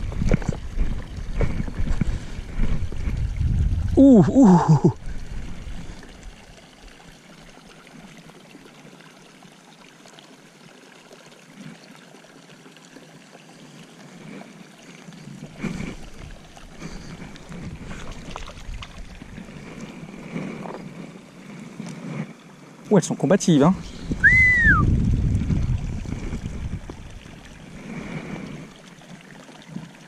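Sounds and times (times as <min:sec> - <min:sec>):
faint water trickle: 0:00.0 - 0:30.0.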